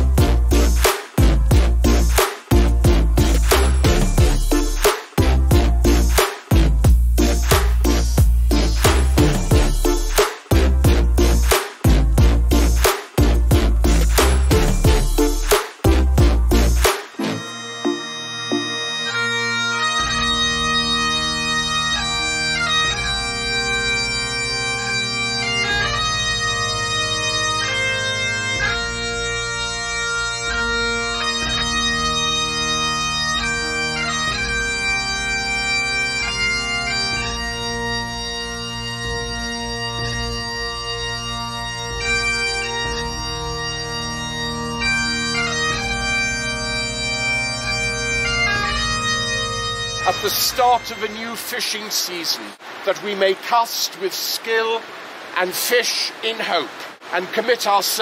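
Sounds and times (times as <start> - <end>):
bagpipe melody: 0.0 - 52.6
bagpipe drones: 0.0 - 52.8.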